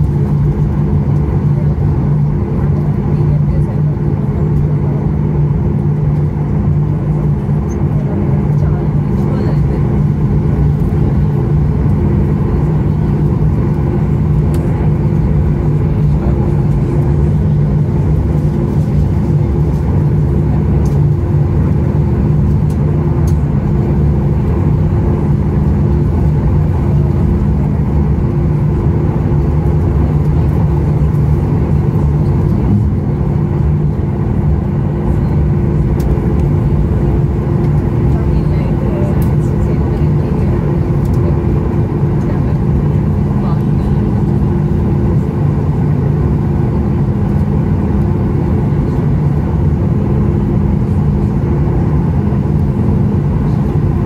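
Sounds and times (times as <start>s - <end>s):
airplane engines low hum: 0.0s - 54.0s.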